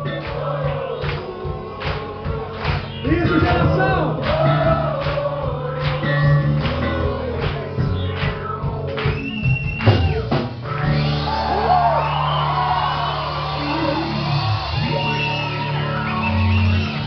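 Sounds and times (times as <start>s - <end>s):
crowd singing and shouting: 0.0s - 17.0s
live worship band music: 0.0s - 17.0s.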